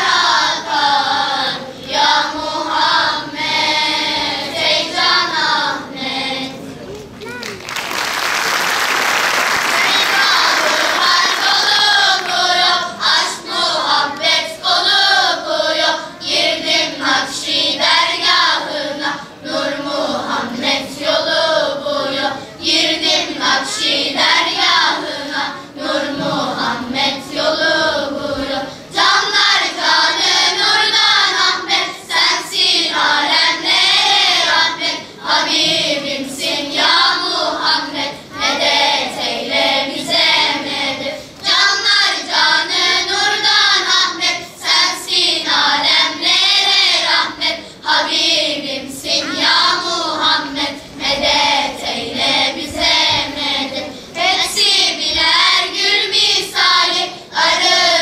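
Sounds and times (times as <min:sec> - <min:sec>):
children's choir singing: 0:00.0 - 0:06.9, 0:08.1 - 0:58.0.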